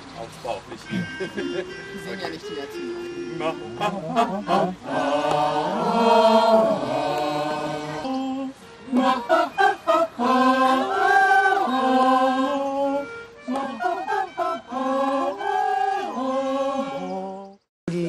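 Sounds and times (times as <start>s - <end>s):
choir singing vocal warm-ups: 3.2s - 18.0s.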